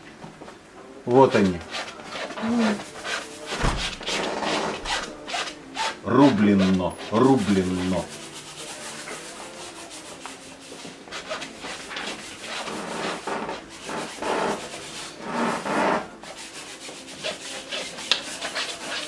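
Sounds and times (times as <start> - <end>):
brush scrubbing paint on canvas: 1.3 - 19.0.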